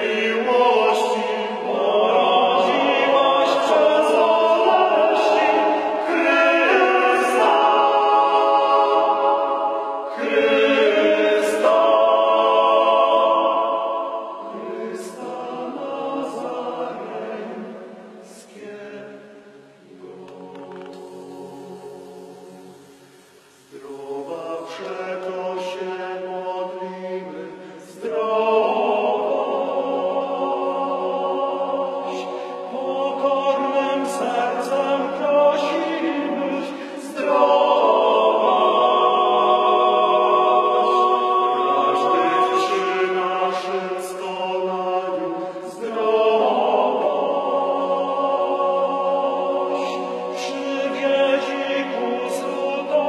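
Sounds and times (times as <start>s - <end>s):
men's choir singing a cappella: 0.0s - 53.0s.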